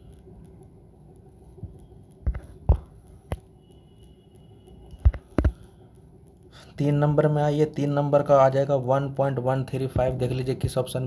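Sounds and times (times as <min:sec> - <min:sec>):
low steady hum: 0:00.0 - 0:11.0
soft sharp clicks: 0:00.0 - 0:11.0.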